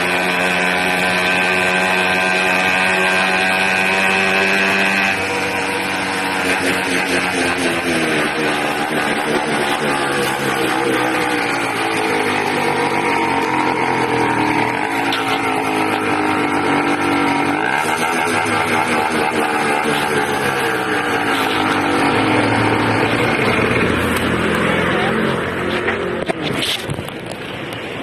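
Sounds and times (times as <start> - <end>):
small engine revving: 0.0 - 28.0.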